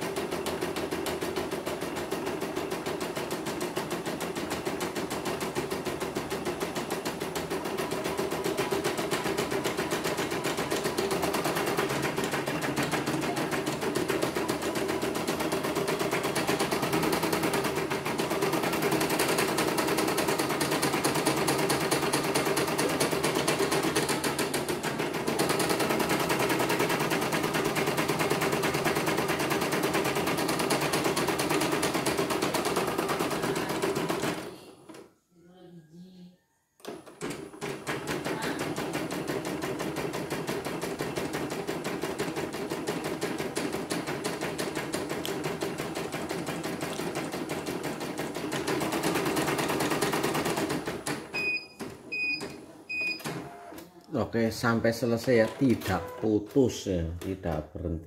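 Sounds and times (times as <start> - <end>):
embroidery machine stitching: 0.0 - 35.1, 36.8 - 53.9, 54.6 - 56.4.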